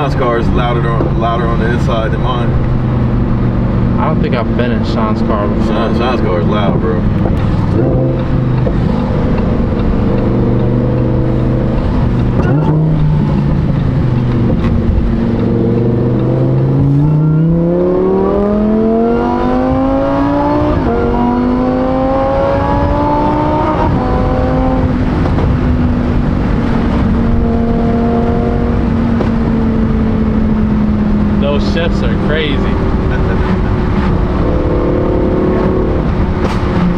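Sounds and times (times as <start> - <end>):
sports car engine accelerating: 0.0 - 36.9.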